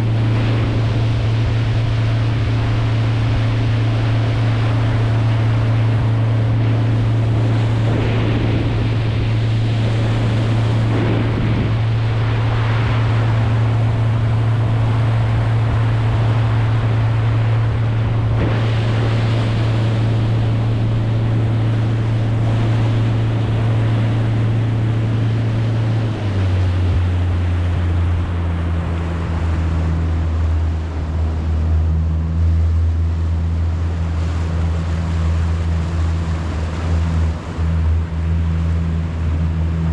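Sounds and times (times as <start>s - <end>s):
boat motor droning: 0.0s - 39.9s
water: 0.0s - 39.9s
wind noise: 0.0s - 39.9s.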